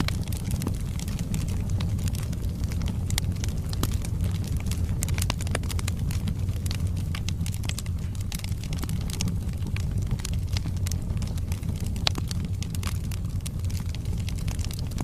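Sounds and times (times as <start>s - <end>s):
fire flames rumbling: 0.0s - 15.0s
wood crackling and popping: 0.0s - 15.0s.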